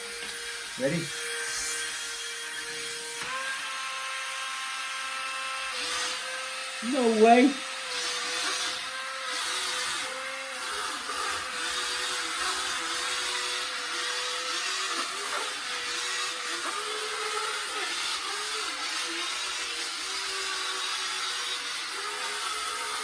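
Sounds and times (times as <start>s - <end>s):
small drive motors whining: 0.0s - 23.0s.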